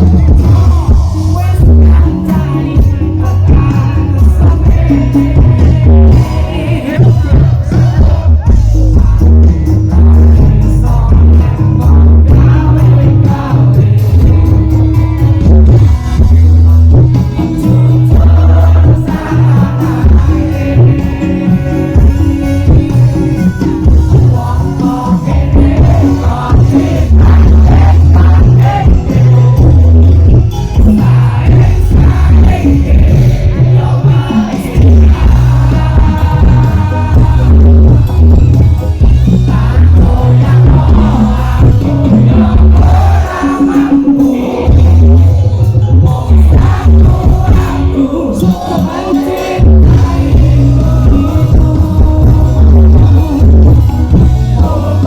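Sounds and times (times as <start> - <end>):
person singing: 0.0 - 15.6, 17.1 - 30.1, 30.7 - 55.0
heavy bass notes: 0.0 - 55.0
live band music: 0.0 - 55.0.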